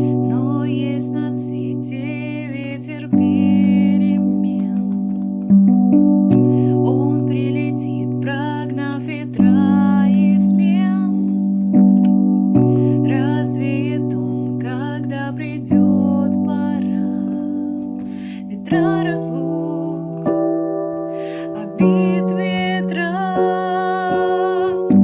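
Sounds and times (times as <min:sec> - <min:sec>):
woman singing: 0:00.0 - 0:05.4, 0:06.3 - 0:11.7, 0:12.6 - 0:25.0
keyboard chords: 0:00.0 - 0:25.0.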